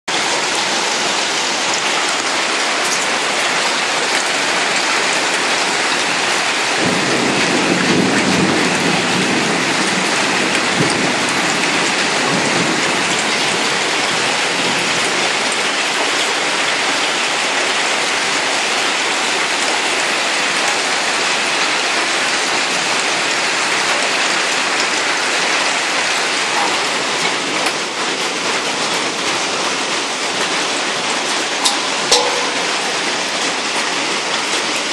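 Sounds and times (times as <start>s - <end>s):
hail and rain falling hard: 0.1s - 34.9s.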